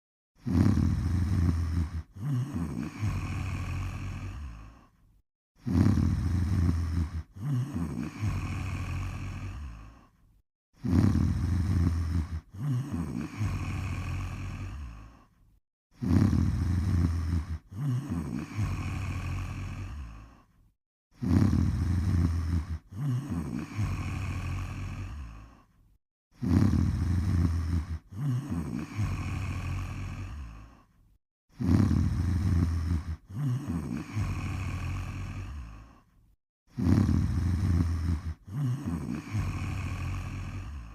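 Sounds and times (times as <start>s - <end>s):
person snoring: 0.4s - 40.9s.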